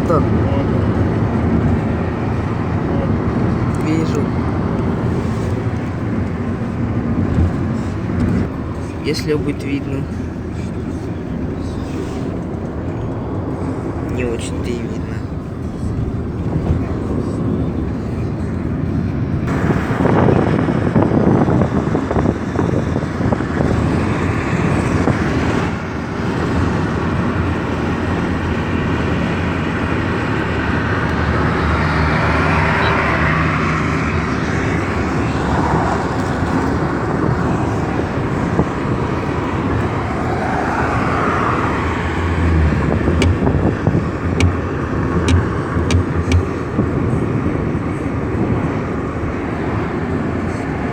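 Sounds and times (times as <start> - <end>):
tyre and engine rumble: 0.0 - 50.9.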